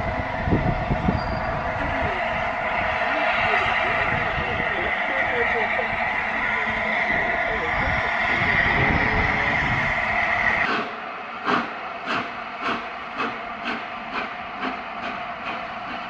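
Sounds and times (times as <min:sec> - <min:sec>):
steam locomotive exhaust chuffing: 0:00.0 - 0:16.0
steam locomotive hissing: 0:00.0 - 0:16.0.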